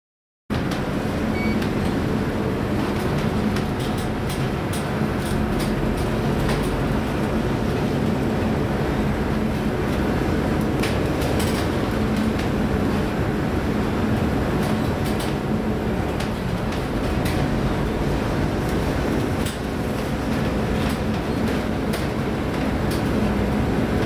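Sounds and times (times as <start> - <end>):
heavy rumble of ship: 0.5 - 24.0.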